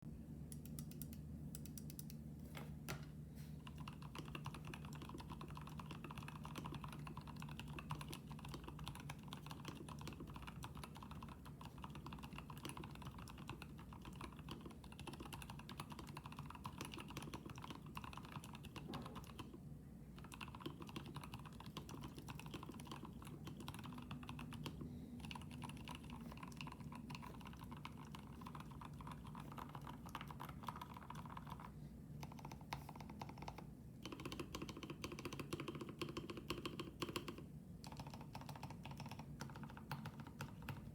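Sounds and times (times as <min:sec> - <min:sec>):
faint low hum: 0:00.0 - 0:40.9
mechanical keyboard typing: 0:00.5 - 0:02.2, 0:03.6 - 0:19.6, 0:20.2 - 0:40.9.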